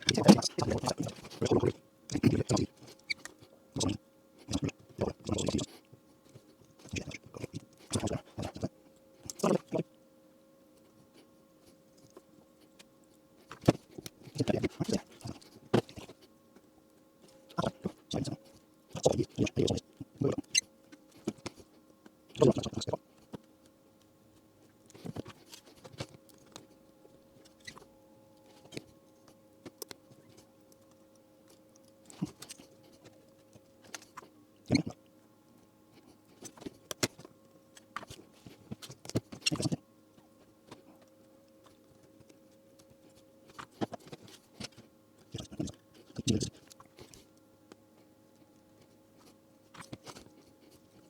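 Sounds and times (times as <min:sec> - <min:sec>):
faint electrical hum: 0:00.0 - 0:51.0.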